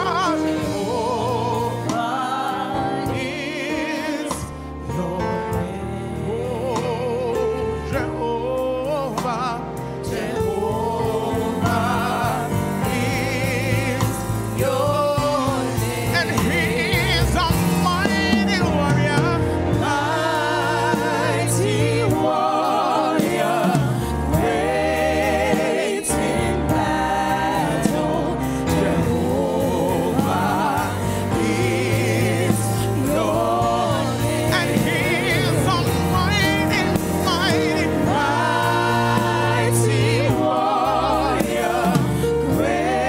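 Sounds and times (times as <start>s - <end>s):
group singing gospel song: 0.0s - 43.0s
instrumental accompaniment: 0.0s - 43.0s.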